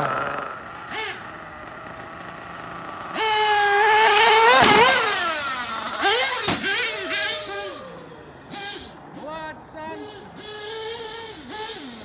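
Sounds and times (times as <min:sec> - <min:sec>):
rc car engine screaming: 0:00.0 - 0:12.0.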